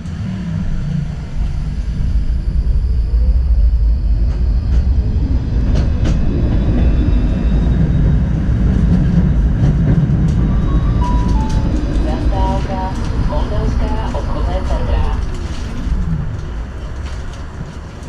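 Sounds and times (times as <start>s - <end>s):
tram wheels rumbling on rails: 0.0s - 18.0s.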